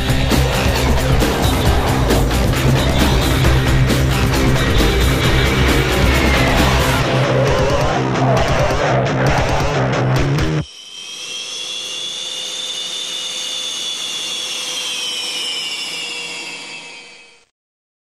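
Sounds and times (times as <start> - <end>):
jet turbine whine: 0.0 - 17.5.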